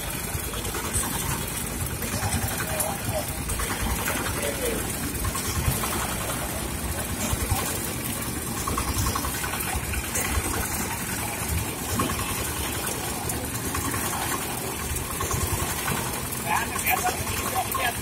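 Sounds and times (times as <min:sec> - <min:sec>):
sugarcane juicer machine running: 0:00.0 - 0:18.0.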